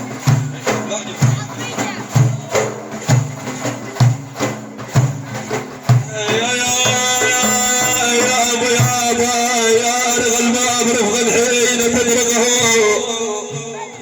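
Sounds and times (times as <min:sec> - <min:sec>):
hand drum beating: 0:00.0 - 0:12.9.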